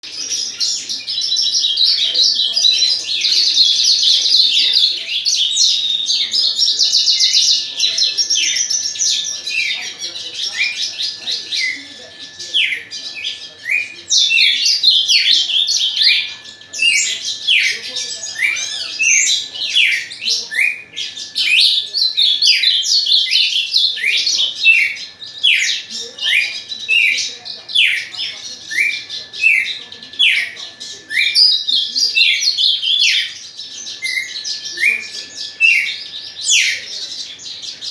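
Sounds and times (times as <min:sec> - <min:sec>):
faint steady high tone: 0:00.0 - 0:37.9
songbirds twittering: 0:00.0 - 0:37.9.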